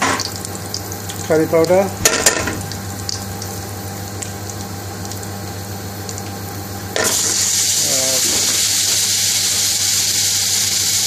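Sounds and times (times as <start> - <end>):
spice frying in oil sizzling: 0.0 - 2.0, 2.9 - 11.0.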